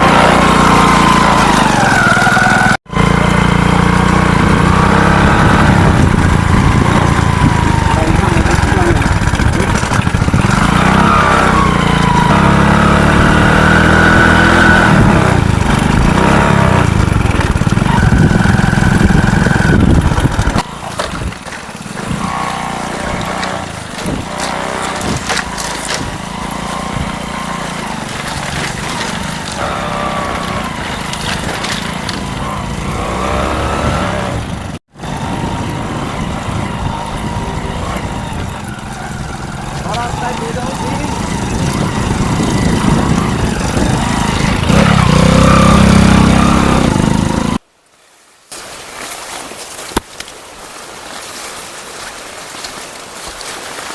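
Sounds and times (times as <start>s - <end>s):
motor engine running loudly: 0.0s - 47.6s.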